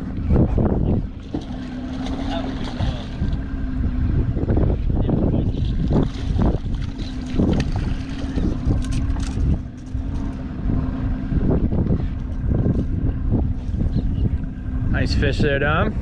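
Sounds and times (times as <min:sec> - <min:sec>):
boat motor idling: 0:00.0 - 0:16.0
wind buffeting microphone: 0:00.0 - 0:16.0.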